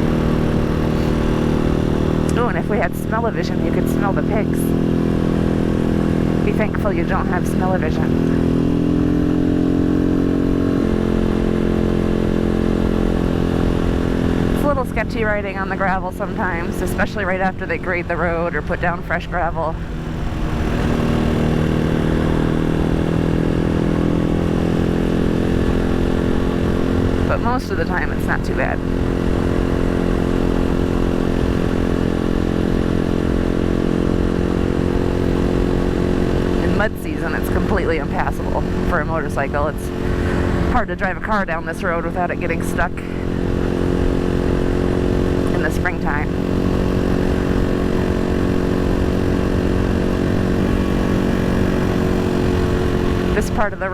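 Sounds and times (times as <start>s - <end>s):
low road rumble: 0.0s - 53.9s
motorcycle engine running: 0.0s - 53.9s.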